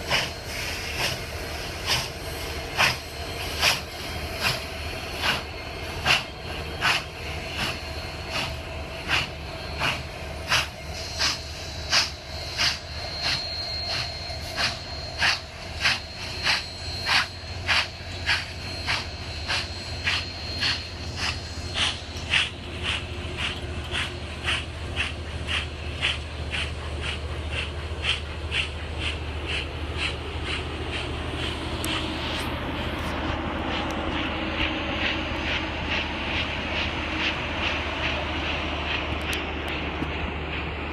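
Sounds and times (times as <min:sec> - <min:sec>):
train rumbling: 0:00.0 - 0:40.9
train wheels clicking over rail joints: 0:00.0 - 0:40.9.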